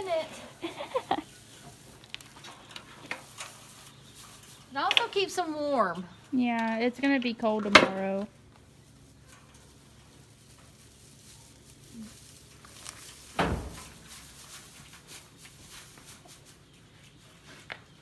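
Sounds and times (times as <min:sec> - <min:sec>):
dry straw rustling and crackling: 0:00.0 - 0:18.0.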